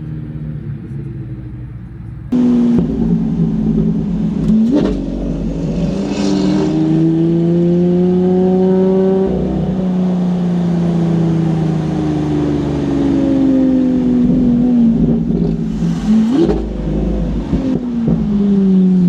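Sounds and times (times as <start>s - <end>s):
car engine running under load: 0.0s - 19.0s.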